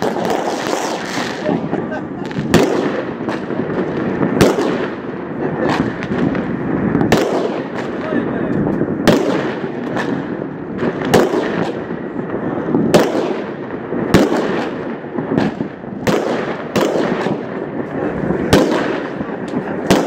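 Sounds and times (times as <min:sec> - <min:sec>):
crackling fireworks: 0:00.0 - 0:20.0
firework bangs: 0:00.0 - 0:20.0.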